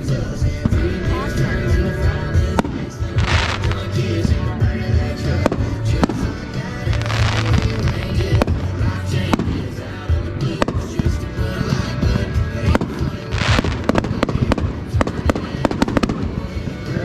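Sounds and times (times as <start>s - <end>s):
background music: 0.0s - 17.0s
fireworks sharp reports: 0.0s - 17.0s.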